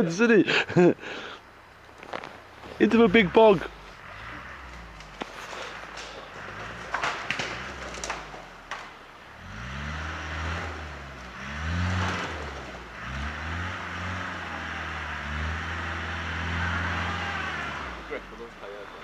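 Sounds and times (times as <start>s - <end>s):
off-road engine revving: 0.0s - 19.0s.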